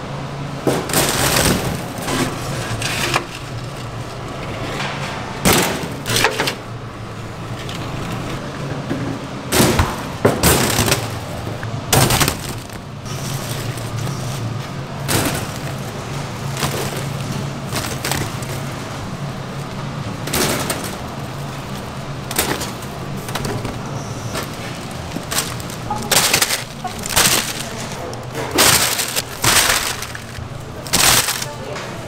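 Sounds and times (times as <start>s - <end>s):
steady low hum: 0.0s - 32.0s
bagels clattering in wire basket: 0.6s - 6.7s, 9.5s - 32.0s.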